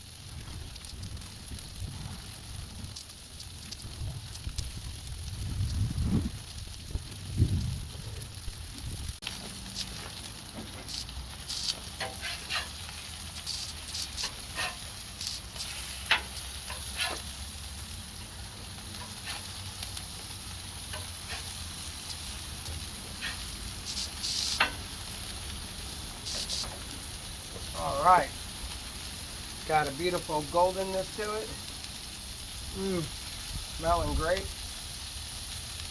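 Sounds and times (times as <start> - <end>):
fat popping and crackling: 0.0 - 28.8
burger patties sizzling: 0.0 - 35.9.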